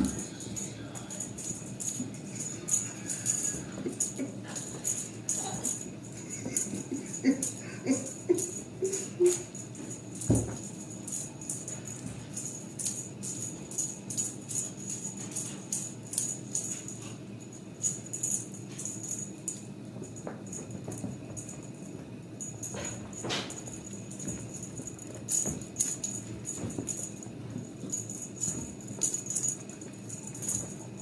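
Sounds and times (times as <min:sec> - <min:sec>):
music with shaker rattling beat: 0:00.0 - 0:31.0.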